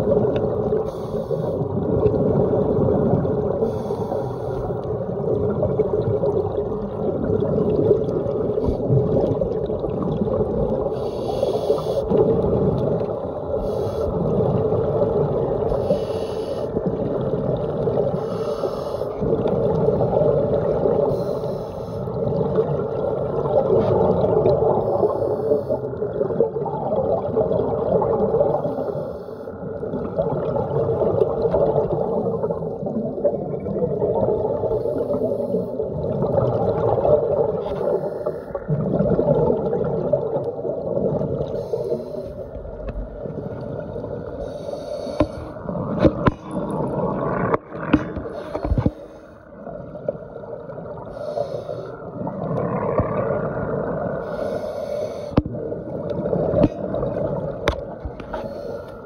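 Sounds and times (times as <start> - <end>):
scuba exhaust bubbles bursting: 0.0 - 28.9, 29.6 - 49.0, 49.6 - 58.8
muffled underwater rumble: 0.0 - 59.0.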